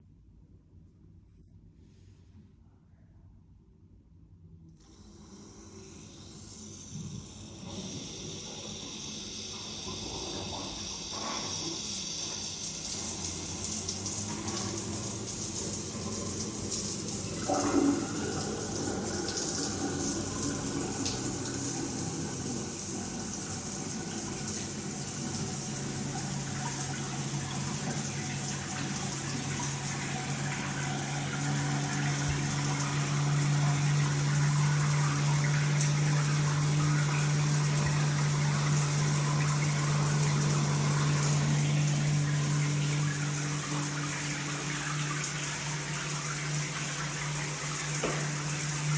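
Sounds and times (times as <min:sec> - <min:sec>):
shower water spraying: 0:04.9 - 0:48.9.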